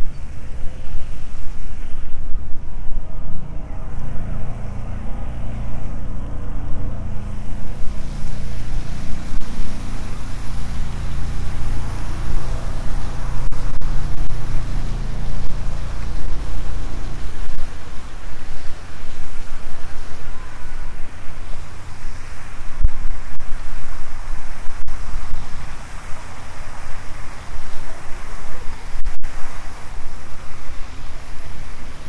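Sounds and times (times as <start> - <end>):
broad hiss: 0.0 - 32.0
wind buffeting microphone: 0.0 - 32.0.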